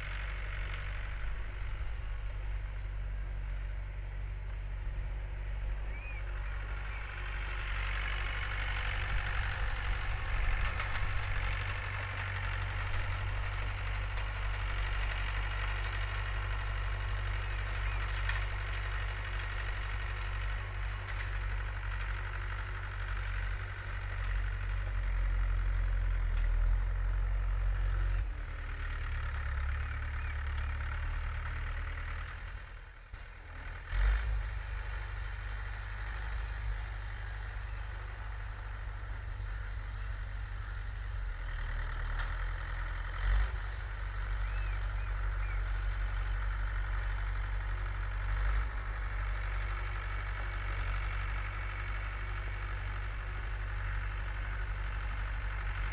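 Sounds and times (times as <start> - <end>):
tractor engine rumbling: 0.0 - 55.9.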